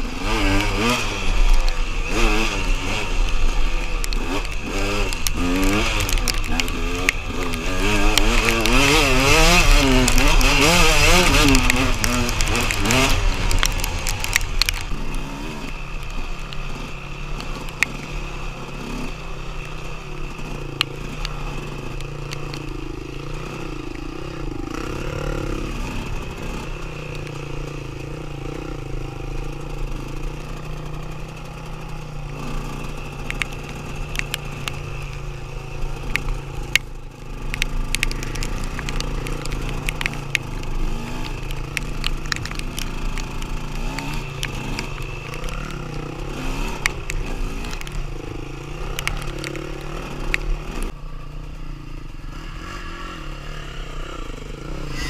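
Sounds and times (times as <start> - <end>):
dirt bike engine running: 0.0 - 55.0
sharp clicks and knocks: 0.2 - 18.4, 19.0 - 24.1, 29.4 - 51.0.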